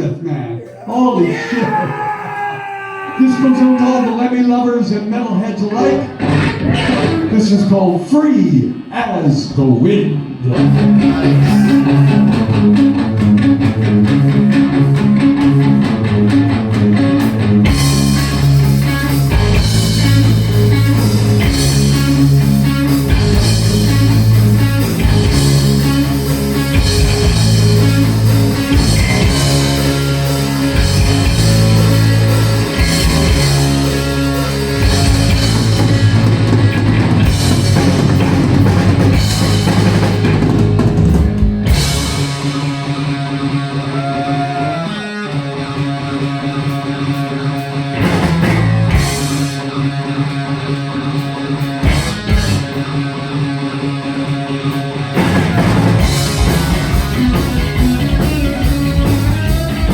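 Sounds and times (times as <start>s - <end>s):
drums: 0.9s - 59.9s
bass guitar: 5.7s - 7.8s, 10.2s - 59.9s
electric guitar riff: 10.1s - 59.9s.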